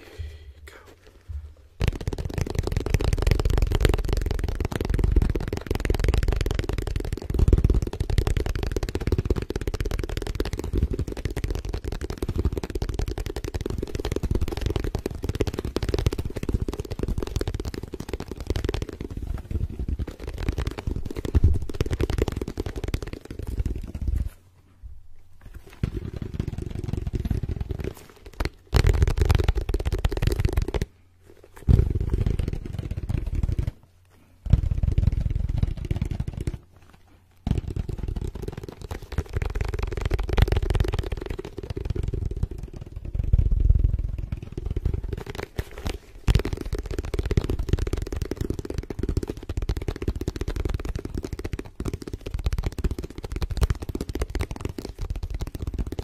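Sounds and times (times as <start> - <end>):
fingertips tapping and scratching: 0.7 - 24.4, 34.4 - 56.0.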